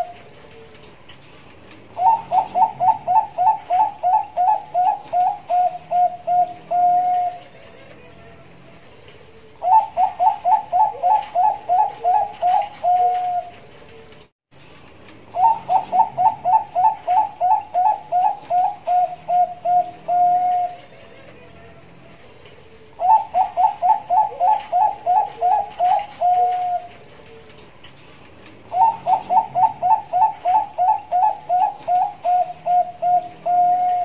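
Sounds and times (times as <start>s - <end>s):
dove singing coo notes: 0.0s - 0.9s, 1.8s - 14.2s, 15.2s - 27.8s, 28.6s - 34.0s.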